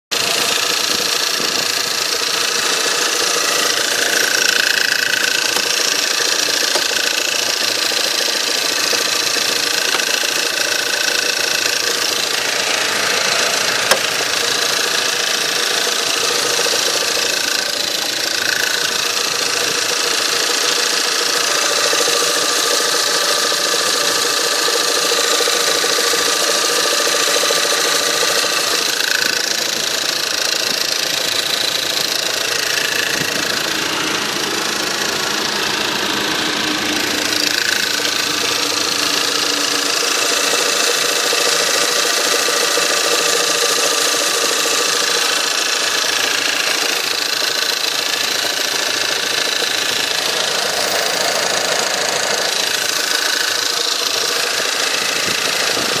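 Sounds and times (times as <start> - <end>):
car engine running: 0.1 - 56.0
engine knocking rattle: 0.1 - 56.0.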